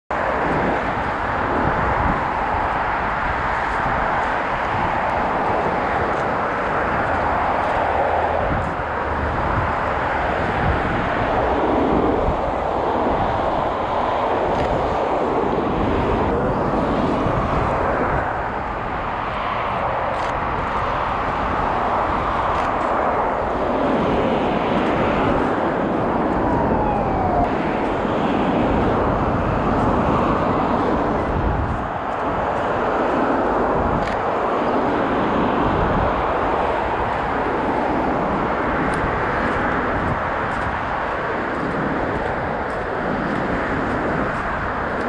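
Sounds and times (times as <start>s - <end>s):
highway traffic: 0.1s - 45.0s.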